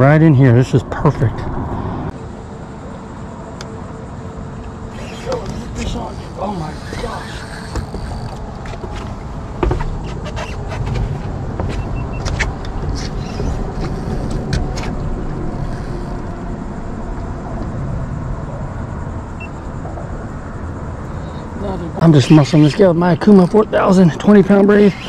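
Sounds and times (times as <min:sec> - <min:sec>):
low rumble of traffic: 0:00.0 - 0:25.0.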